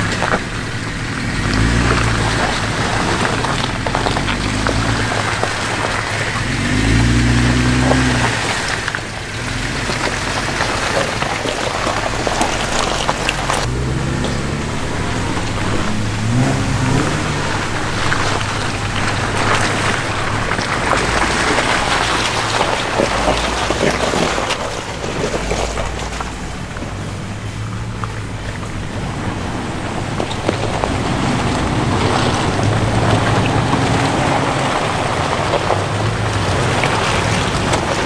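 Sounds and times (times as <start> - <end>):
off-road vehicle engine revving: 0.0 - 38.0
tyres splashing through mud: 0.0 - 38.0.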